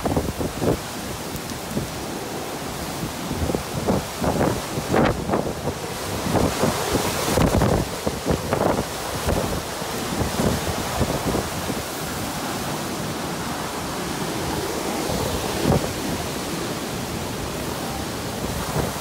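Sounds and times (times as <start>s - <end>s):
wind and driving rain: 0.0s - 19.0s
wind gusts buffeting microphone: 0.0s - 19.0s.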